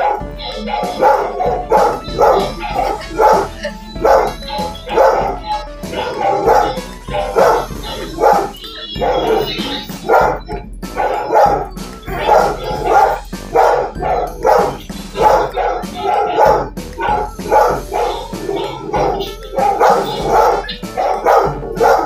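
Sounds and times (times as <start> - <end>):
dog barking: 0.0 - 22.0
dog barks through tv speaker: 0.0 - 22.0.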